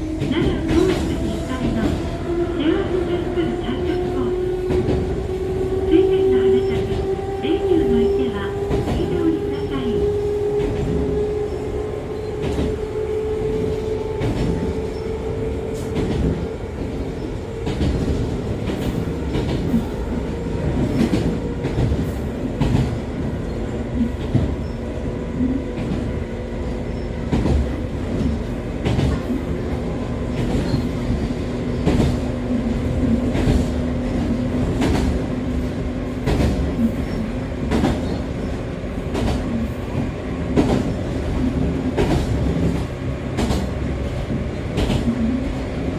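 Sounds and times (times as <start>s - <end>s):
train running rumble: 0.0s - 45.9s
rail-joint clicks: 0.1s - 5.2s, 5.8s - 10.0s, 10.6s - 12.8s, 13.5s - 45.6s.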